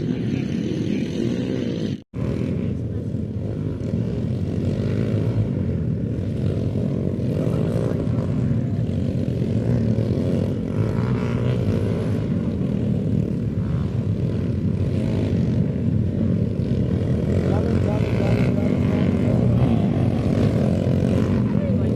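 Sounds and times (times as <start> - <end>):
dirt bike engine droning: 0.0 - 21.9.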